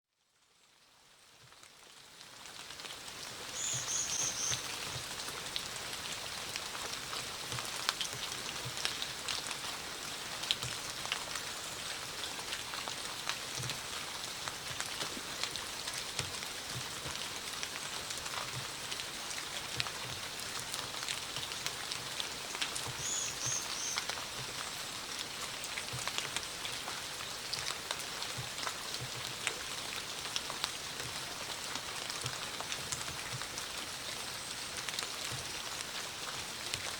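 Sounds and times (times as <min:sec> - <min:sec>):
steady rain: 0:00.2 - 0:36.9.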